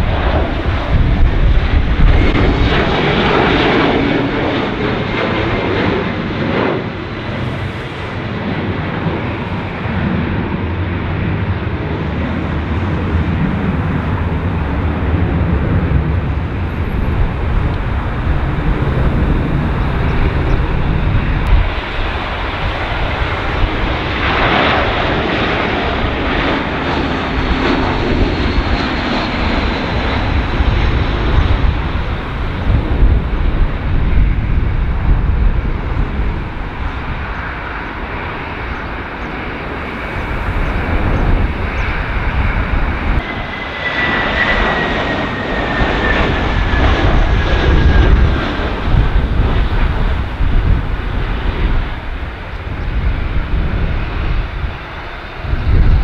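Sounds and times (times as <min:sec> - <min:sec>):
jet engines with whine: 0:00.0 - 0:56.0
wind rumble on microphone: 0:00.0 - 0:56.0.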